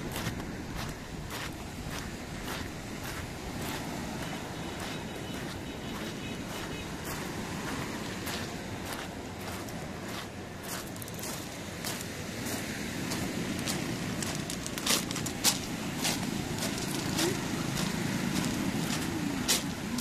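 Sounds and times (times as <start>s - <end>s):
outdoor noise wash: 0.0s - 20.0s.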